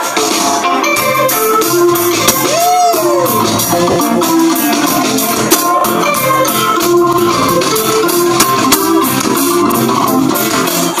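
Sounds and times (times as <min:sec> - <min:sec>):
bass guitar: 0:00.0 - 0:11.0
drum kit beat: 0:00.0 - 0:11.0
electric guitar: 0:00.0 - 0:11.0
keyboard organ sound: 0:00.6 - 0:11.0.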